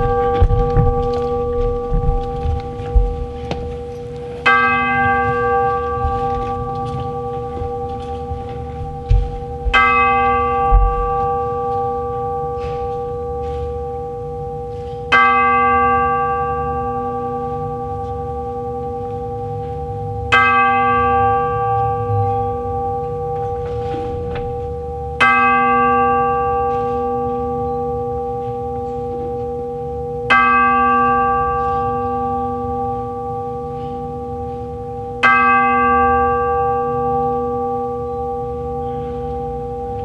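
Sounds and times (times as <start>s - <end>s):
tubular bells ringing: 0.0s - 40.0s.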